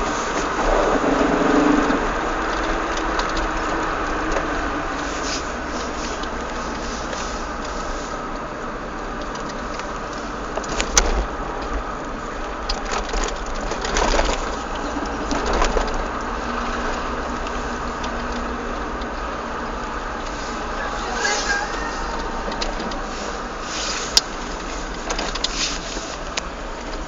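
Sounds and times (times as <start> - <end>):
car clacking: 0.0 - 27.0
car engine and road rumble: 0.0 - 27.0.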